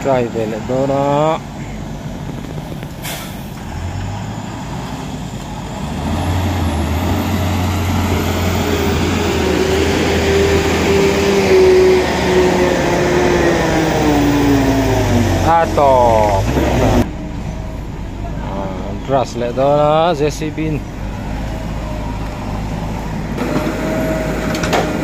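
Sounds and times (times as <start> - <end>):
engine whine: 0.0 - 25.0
vehicle engine running: 0.0 - 25.0.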